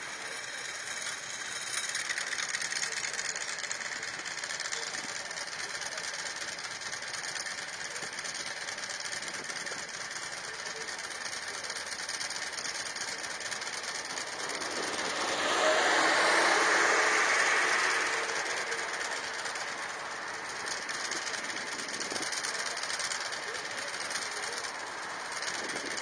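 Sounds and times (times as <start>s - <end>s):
vehicle running noise: 0.0s - 26.0s.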